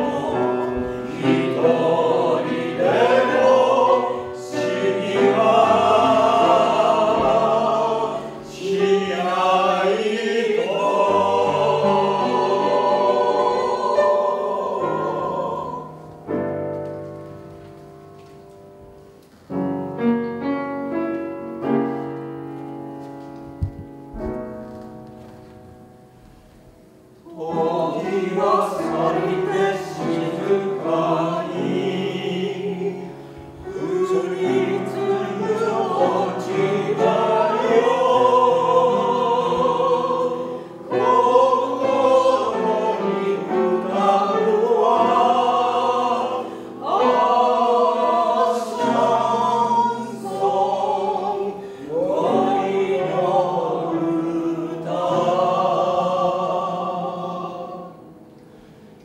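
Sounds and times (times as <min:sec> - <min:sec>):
vocal ensemble singing: 0:00.0 - 0:16.7, 0:27.2 - 0:59.0.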